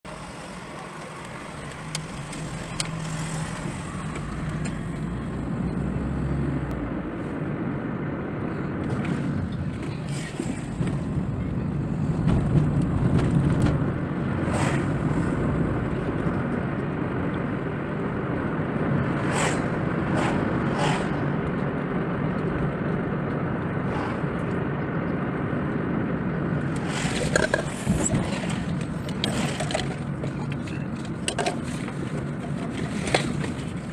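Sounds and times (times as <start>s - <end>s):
car engine and road noise: 0.0s - 33.9s.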